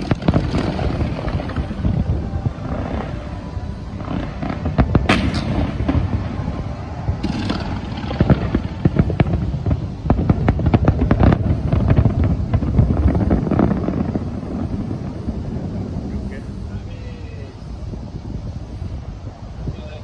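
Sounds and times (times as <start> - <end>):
crackling fireworks bursts: 0.0 - 20.0
fireworks bangs: 0.0 - 20.0
low rumble: 0.0 - 20.0.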